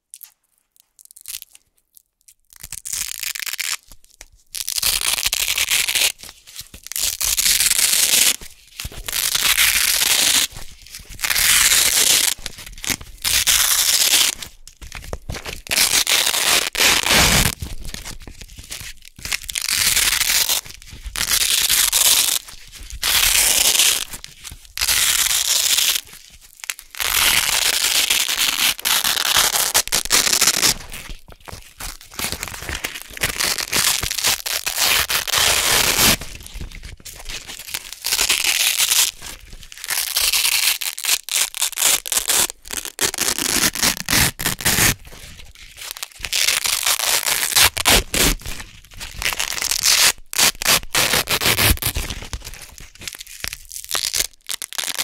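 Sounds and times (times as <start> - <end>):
velcro ripping apart: 1.0 - 55.0.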